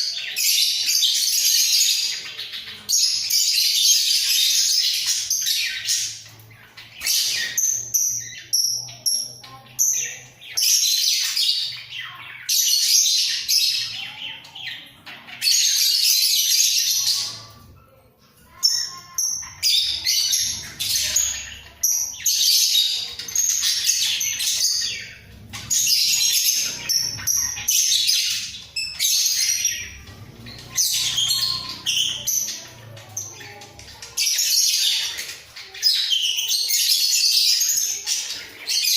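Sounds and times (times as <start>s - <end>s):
budgerigars chattering and warbling: 0.0s - 17.8s, 18.5s - 38.9s.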